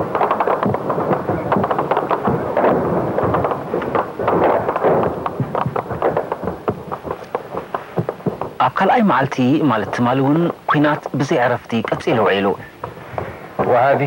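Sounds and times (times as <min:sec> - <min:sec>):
dense gunfire: 0:00.0 - 0:14.0.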